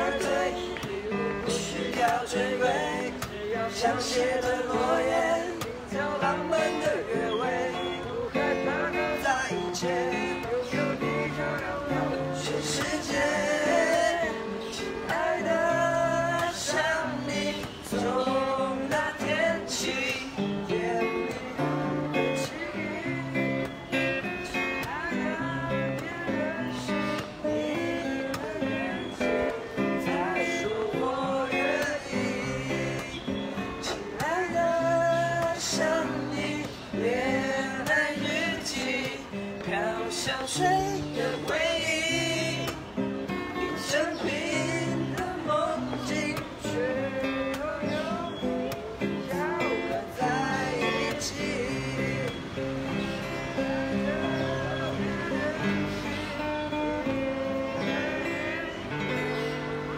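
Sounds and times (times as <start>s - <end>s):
acoustic guitar strumming: 0.0s - 59.9s
young voices singing together: 0.0s - 59.9s.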